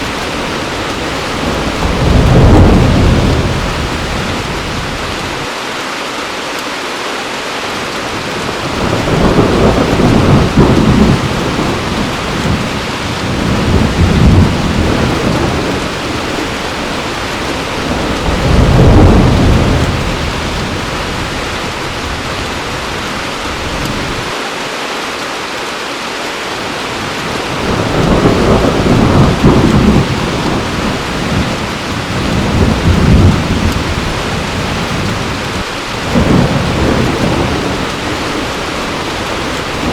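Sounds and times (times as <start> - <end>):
thunder rumbling: 0.0 - 5.5, 8.1 - 24.4, 26.9 - 39.9
heavy rain: 0.0 - 39.9.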